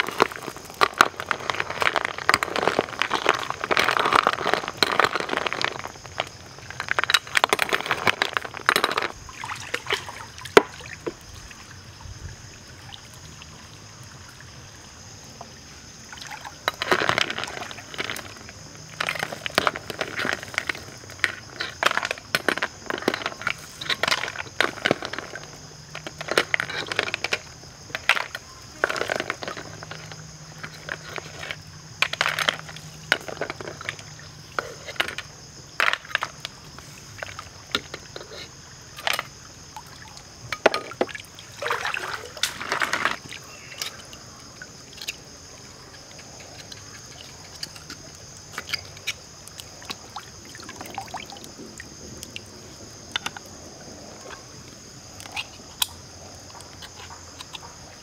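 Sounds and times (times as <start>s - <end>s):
water splashing and dripping: 0.0s - 58.0s.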